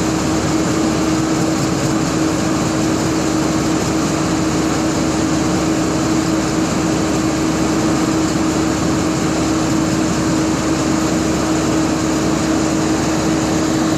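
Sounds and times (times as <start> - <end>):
engine humming steadily: 0.0 - 13.9.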